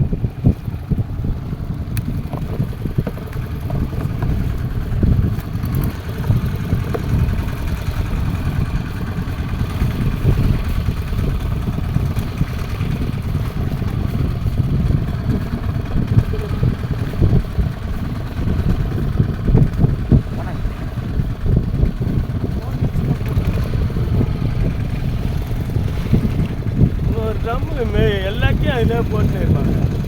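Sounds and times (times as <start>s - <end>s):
boat engine rumbling: 0.0s - 30.0s.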